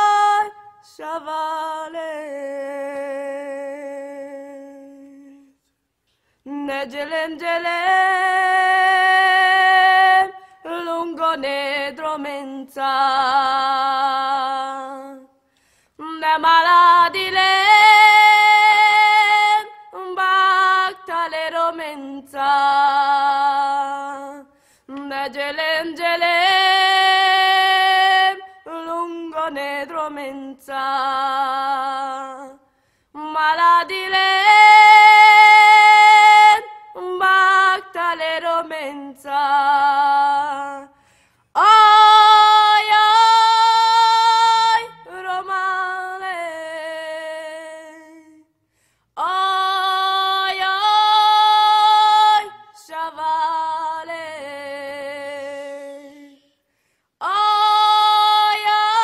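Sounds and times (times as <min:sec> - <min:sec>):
woman singing unaccompanied: 0:00.0 - 0:05.6, 0:06.5 - 0:15.3, 0:16.0 - 0:32.6, 0:33.2 - 0:41.0, 0:41.6 - 0:48.5, 0:49.2 - 0:56.5, 0:57.2 - 0:59.0.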